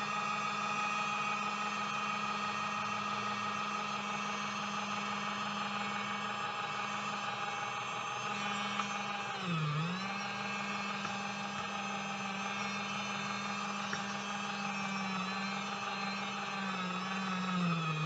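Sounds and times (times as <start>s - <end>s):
small electric motor whirring: 0.0s - 18.0s.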